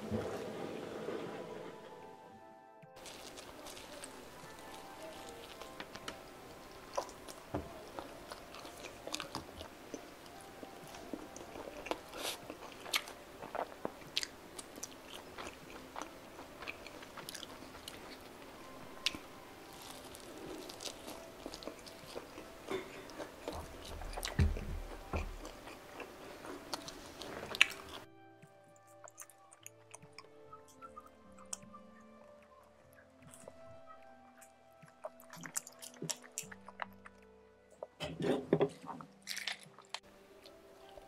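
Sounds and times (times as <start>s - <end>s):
crunchy chewing of fried chicken: 3.0s - 28.1s, 28.8s - 38.0s, 38.7s - 41.0s.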